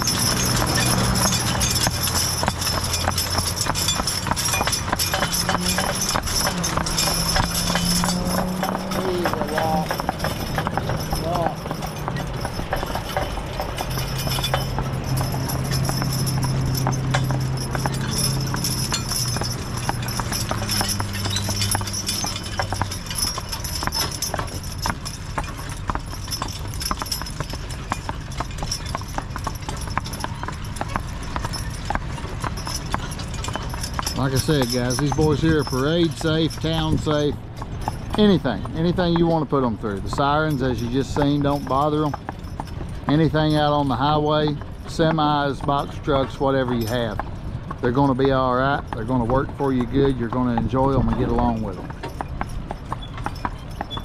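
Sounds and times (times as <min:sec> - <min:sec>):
horse hooves clip-clopping on asphalt: 0:00.0 - 0:54.0.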